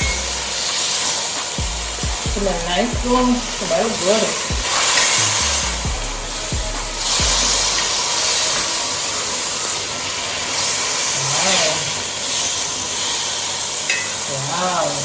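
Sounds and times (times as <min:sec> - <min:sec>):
gizzards sizzling in a hot pot: 0:00.0 - 0:15.0.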